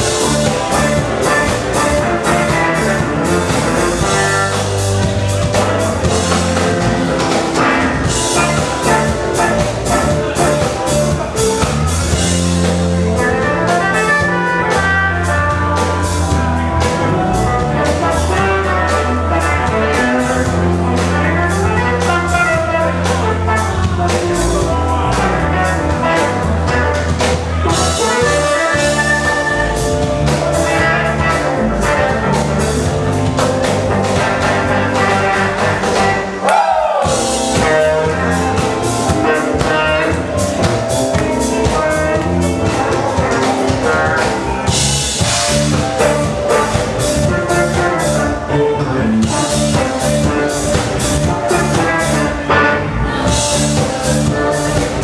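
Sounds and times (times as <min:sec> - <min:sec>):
bass line: 0:00.0 - 0:55.0
drum kit: 0:00.0 - 0:55.0
electric guitar: 0:00.0 - 0:55.0
keyboards: 0:00.0 - 0:55.0.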